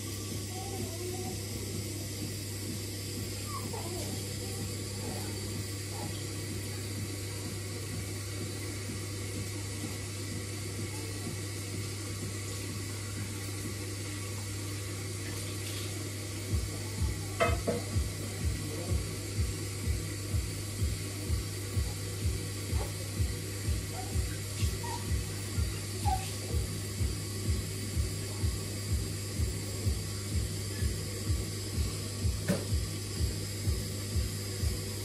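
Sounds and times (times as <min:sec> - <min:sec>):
music with thumping beat: 0:00.0 - 0:14.0, 0:16.0 - 0:35.0
steady low hum: 0:00.0 - 0:35.0
water running: 0:00.0 - 0:35.0.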